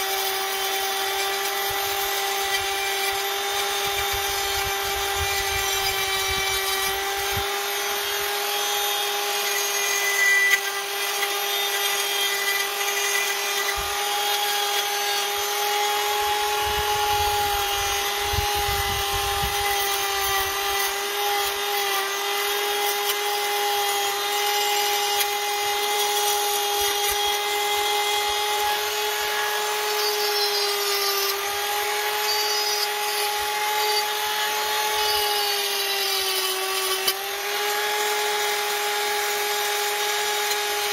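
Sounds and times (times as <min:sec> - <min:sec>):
wire brush rasping on metal: 0:00.0 - 0:38.1
rotary tool motor whine: 0:00.0 - 0:40.9.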